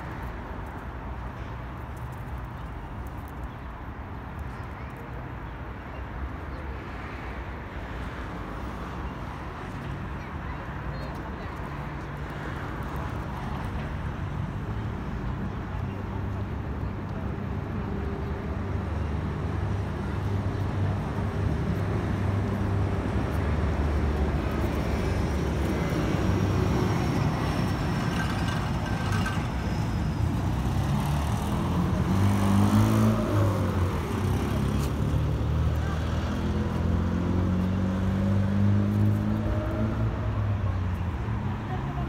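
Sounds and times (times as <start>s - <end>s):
motor traffic engine rumble: 0.0s - 42.0s.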